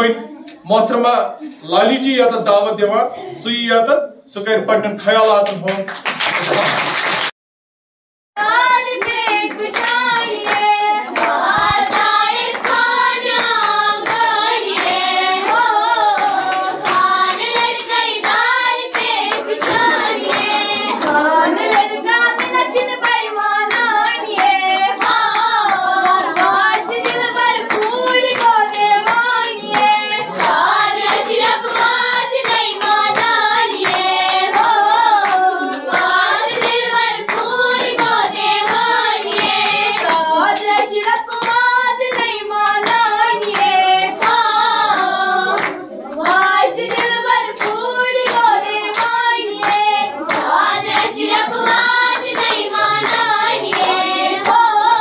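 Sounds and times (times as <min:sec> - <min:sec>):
hands clapping: 0:05.1 - 0:07.3, 0:08.4 - 0:55.0
girls singing together: 0:08.4 - 0:55.0.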